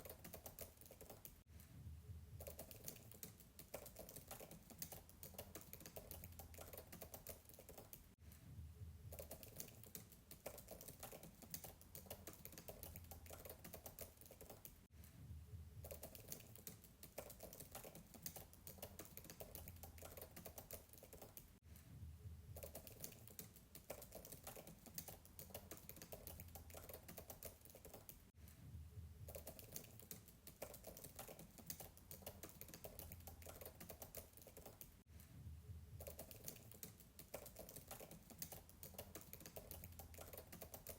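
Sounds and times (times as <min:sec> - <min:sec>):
faint fast keyboard typing: 0:00.0 - 0:01.4, 0:02.3 - 0:08.2, 0:09.0 - 0:14.9, 0:15.8 - 0:21.6, 0:22.5 - 0:28.3, 0:29.2 - 0:35.0, 0:35.9 - 0:40.9.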